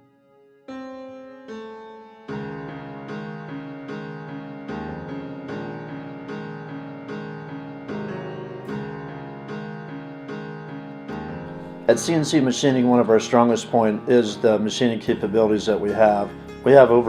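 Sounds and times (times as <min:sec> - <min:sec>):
piano-like keyboard playing: 0:00.0 - 0:17.0.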